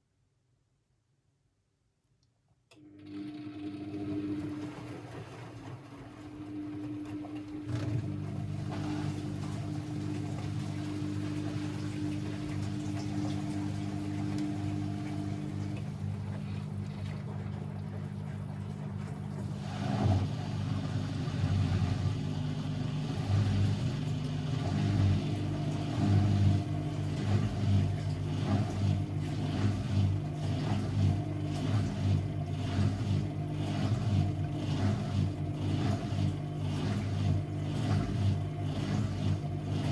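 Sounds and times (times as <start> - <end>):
washing machine drum motor humming: 2.7 - 39.9.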